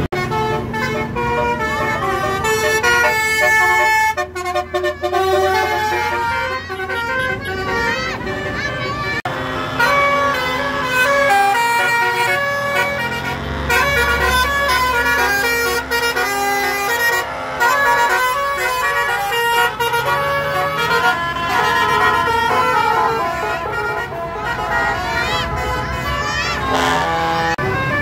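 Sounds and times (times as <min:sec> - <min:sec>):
bus engine running: 0:00.0 - 0:28.0
bus musical horns playing melodies: 0:00.0 - 0:28.0.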